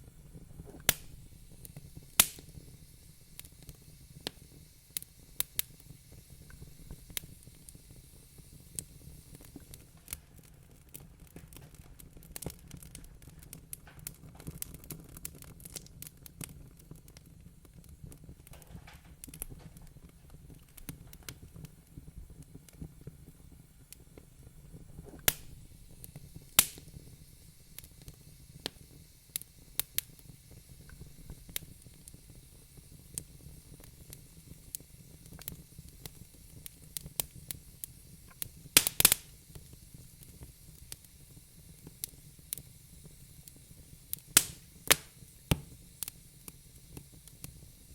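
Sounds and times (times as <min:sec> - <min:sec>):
sharp pops and snaps of fire: 0:00.0 - 0:47.9
wood fire crackling: 0:00.0 - 0:47.9.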